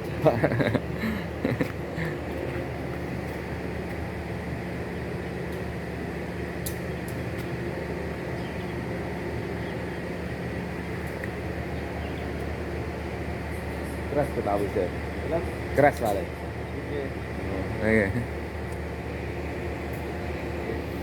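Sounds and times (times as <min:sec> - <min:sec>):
train carriage rumble: 0:00.0 - 0:21.0.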